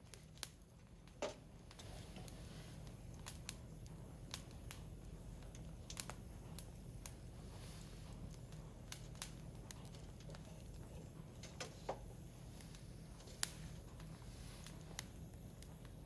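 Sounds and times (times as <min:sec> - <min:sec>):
firewood crackling and popping: 0:00.0 - 0:16.0
steady low hum: 0:00.0 - 0:16.0.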